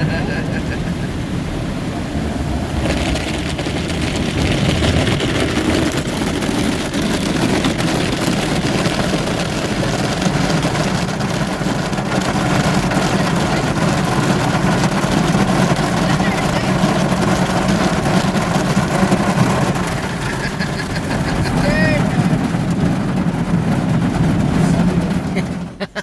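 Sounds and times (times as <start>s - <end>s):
water spray and spinning brushes: 0.0s - 26.0s.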